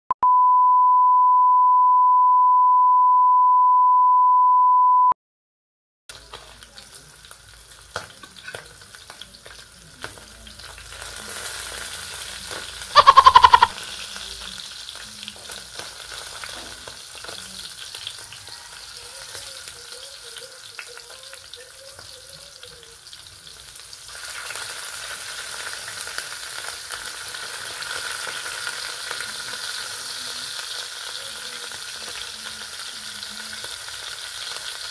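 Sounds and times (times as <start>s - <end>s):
fish frying in hot oil: 6.1s - 13.0s, 13.7s - 34.9s.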